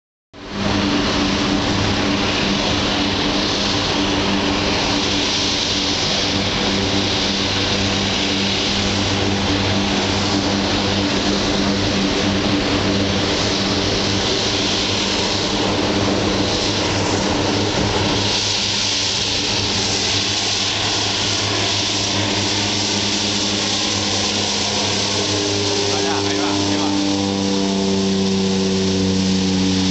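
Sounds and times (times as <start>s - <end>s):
turboprop plane engine drone: 0.4s - 29.9s.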